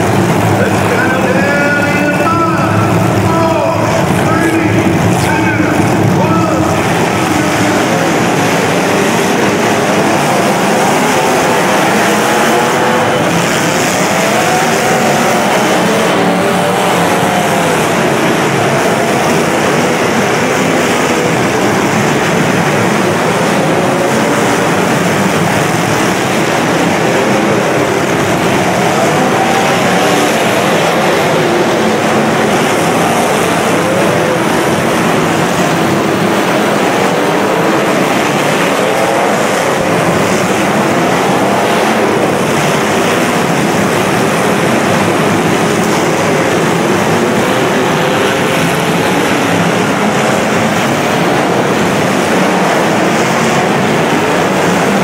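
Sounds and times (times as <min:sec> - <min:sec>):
car engines revving hard: 0:00.0 - 0:55.0
echoing arena noise: 0:00.0 - 0:55.0.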